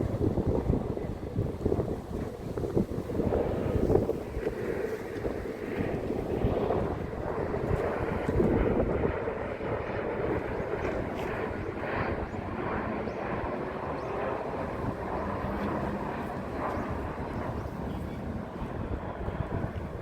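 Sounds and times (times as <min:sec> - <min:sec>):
jet engine rushing: 0:00.0 - 0:20.0.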